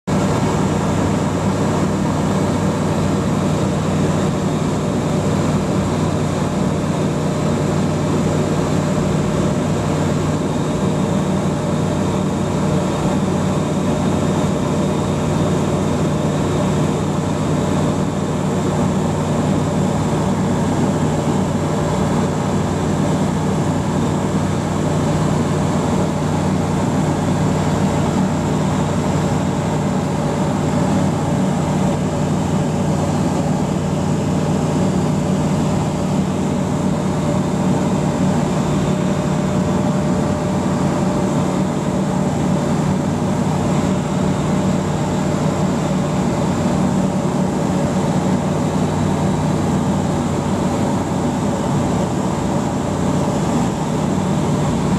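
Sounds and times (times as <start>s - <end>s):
light aircraft engine droning: 0.1s - 54.9s.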